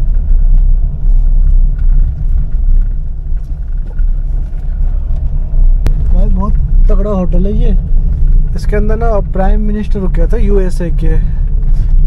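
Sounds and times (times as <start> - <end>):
car interior engine and tyre rumble: 0.0 - 12.0.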